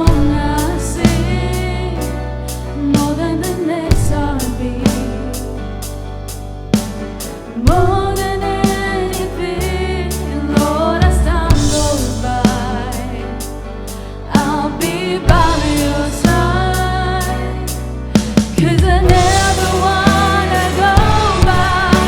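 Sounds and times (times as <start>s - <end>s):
worship song with band: 0.0s - 22.0s.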